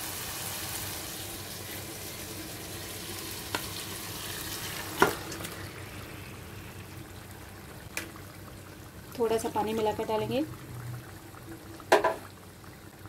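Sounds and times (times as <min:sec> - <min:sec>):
sizzling in hot oil: 0:00.0 - 0:13.0.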